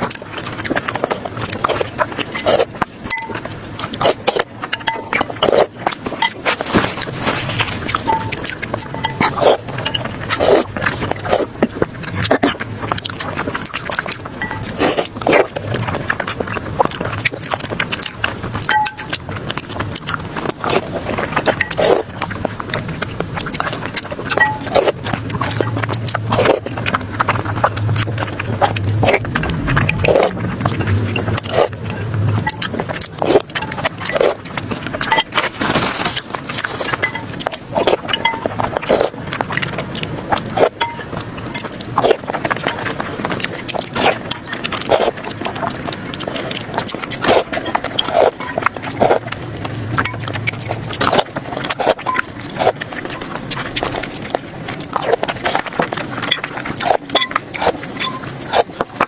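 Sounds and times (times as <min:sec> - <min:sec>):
low steady hum: 0:00.0 - 0:59.0
person chewing food: 0:00.0 - 0:59.0.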